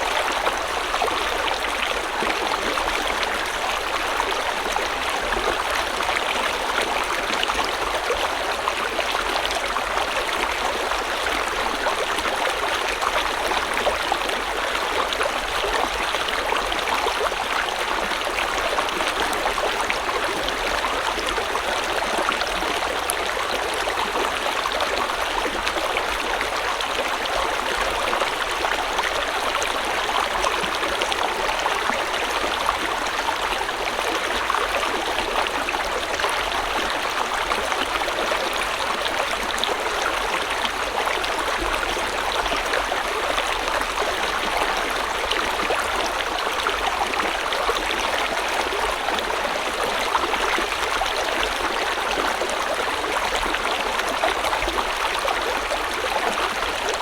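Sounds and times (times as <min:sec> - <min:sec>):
stream babbling over rocks: 0:00.0 - 0:57.0.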